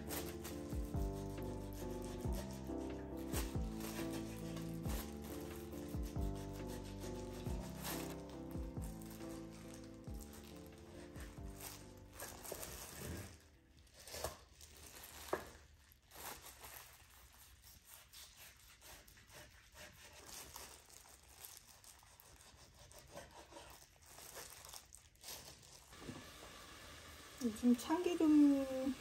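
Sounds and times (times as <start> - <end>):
rustling and tearing: 0.0 - 26.0.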